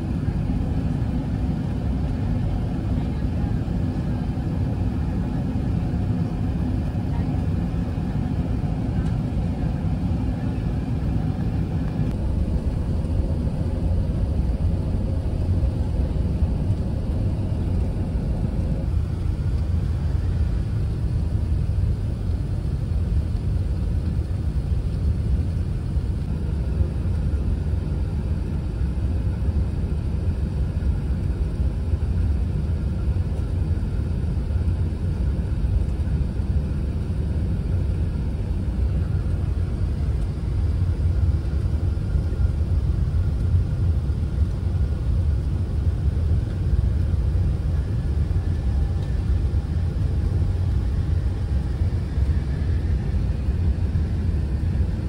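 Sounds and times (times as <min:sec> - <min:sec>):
low rumble of airflow and engines: 0:00.0 - 0:55.0.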